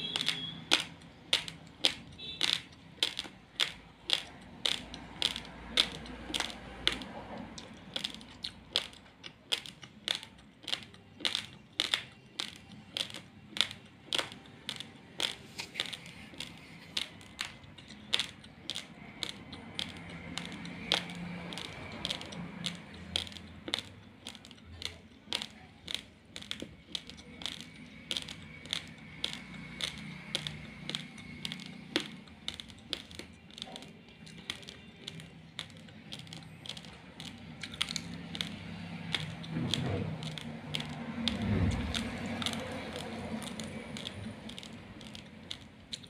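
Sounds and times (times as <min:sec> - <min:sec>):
rice grains crunching when chewed: 0:00.0 - 0:46.0.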